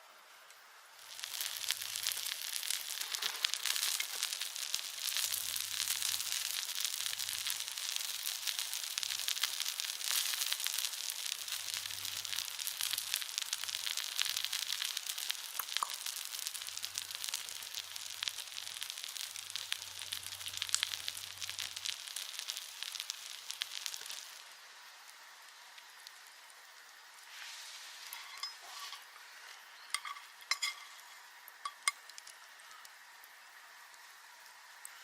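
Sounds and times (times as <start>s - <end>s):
food sizzling in a frying pan: 0.0s - 35.0s.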